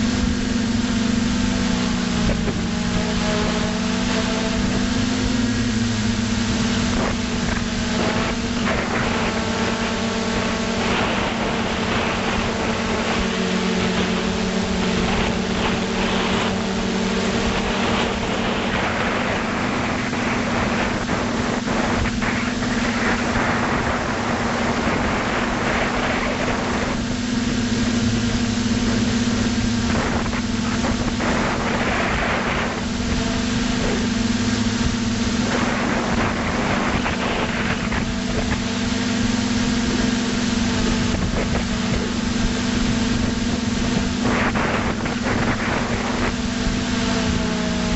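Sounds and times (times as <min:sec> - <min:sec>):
drone propellers buzzing: 0:00.0 - 0:47.9.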